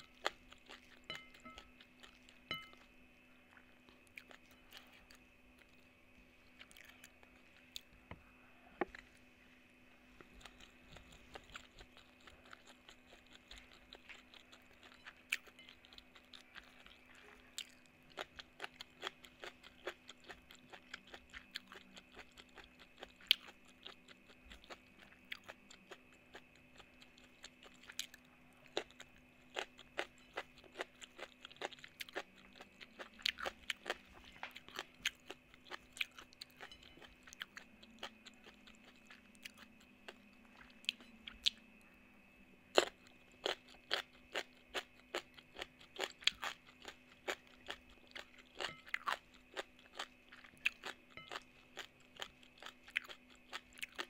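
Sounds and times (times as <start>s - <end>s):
chewing and crunching food: 0.0s - 8.1s, 8.7s - 54.0s.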